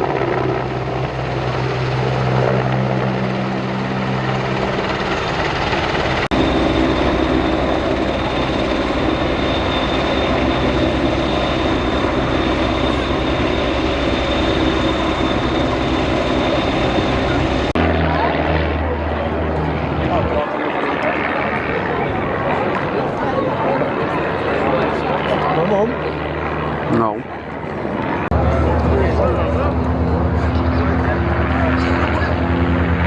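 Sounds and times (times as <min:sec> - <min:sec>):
aircraft engine running: 0:00.0 - 0:33.0.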